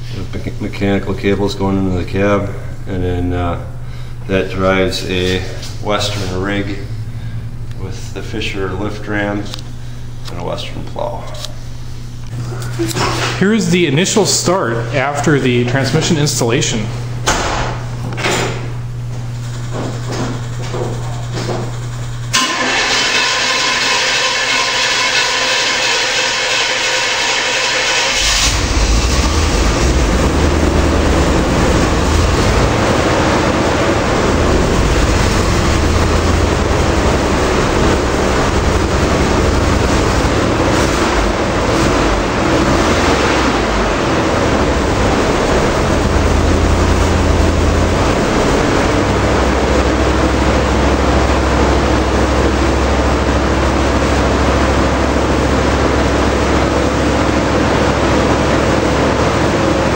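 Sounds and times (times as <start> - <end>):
pickup engine running: 0.0 - 10.3, 14.7 - 59.9.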